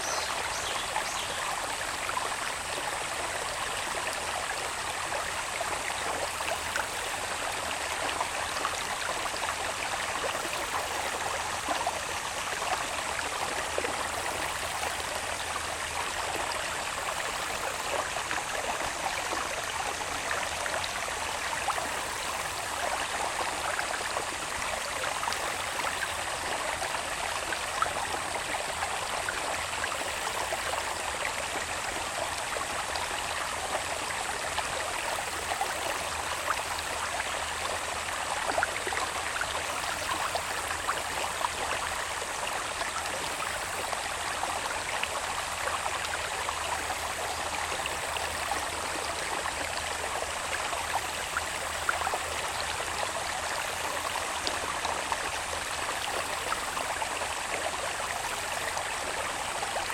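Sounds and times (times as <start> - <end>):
water babbling in a channel: 0.0 - 59.9.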